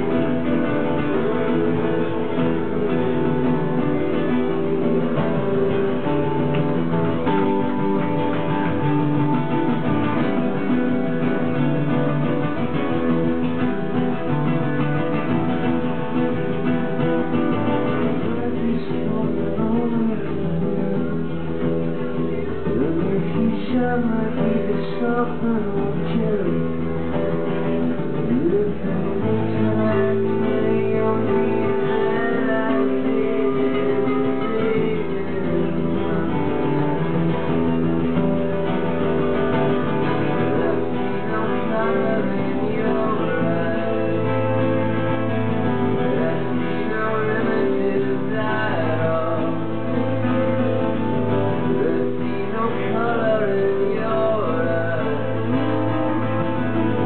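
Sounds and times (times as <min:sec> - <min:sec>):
acoustic guitars playing: 0:00.0 - 0:57.0.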